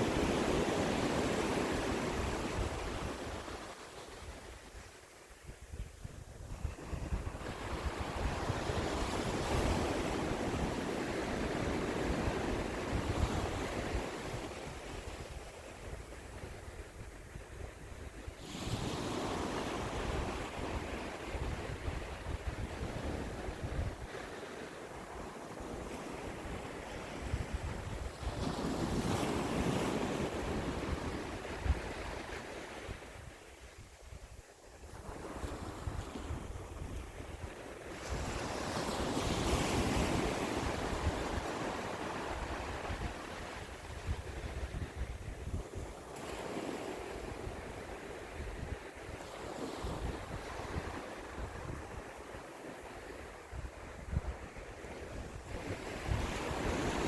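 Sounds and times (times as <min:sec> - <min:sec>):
ocean waves breaking on shore: 0:00.0 - 0:57.0
wind rumble on microphone: 0:00.0 - 0:57.0.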